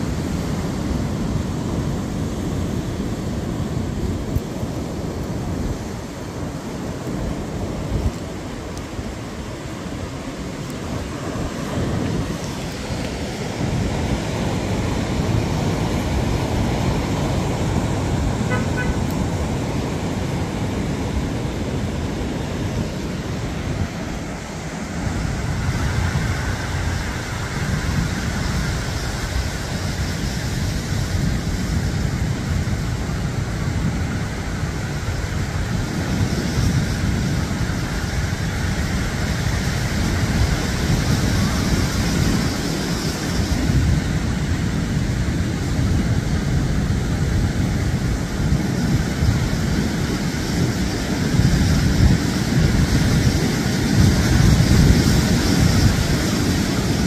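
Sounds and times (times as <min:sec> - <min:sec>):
road traffic noise: 0:00.0 - 0:57.0
wind: 0:00.0 - 0:57.0.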